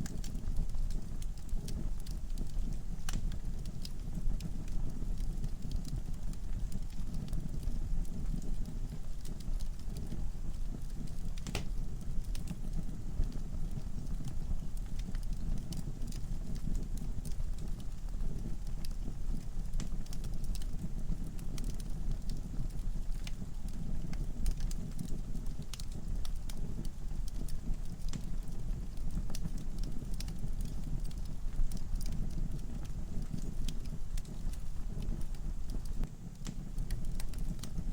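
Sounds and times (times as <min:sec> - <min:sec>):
fire flames rumbling: 0:00.0 - 0:37.9
logs crackling and popping: 0:00.0 - 0:37.9.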